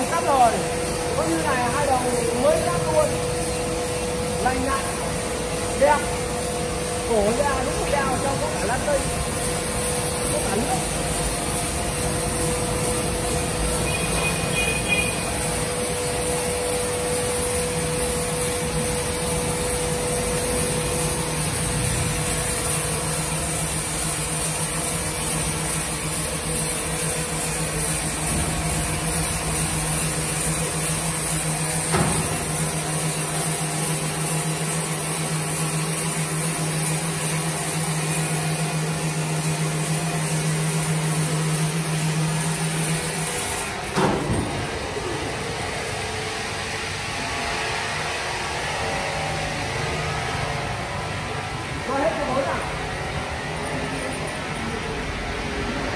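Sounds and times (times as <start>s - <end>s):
higher machine whine: 0.0s - 34.3s, 38.0s - 55.9s
sawmill machine running: 0.0s - 55.9s.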